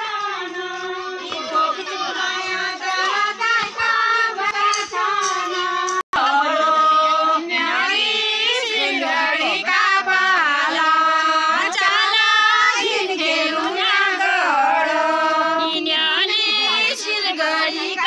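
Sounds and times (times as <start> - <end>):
women singing folk song: 0.0 - 18.0.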